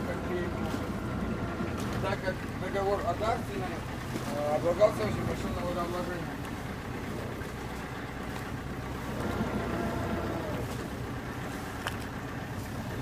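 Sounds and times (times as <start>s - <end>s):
motor boat engine humming: 0.0s - 13.0s.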